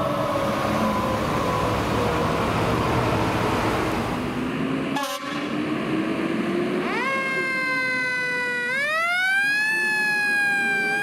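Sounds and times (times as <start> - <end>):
fire truck siren: 0.0 - 4.2, 4.9 - 11.0
engine and road noise: 0.0 - 11.0.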